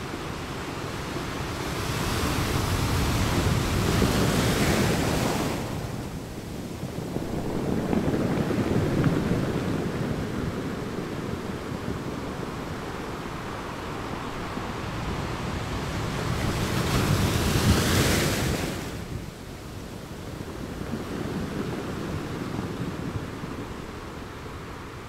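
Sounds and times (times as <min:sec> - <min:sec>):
ocean surf breaking over rocks: 0:00.0 - 0:25.0.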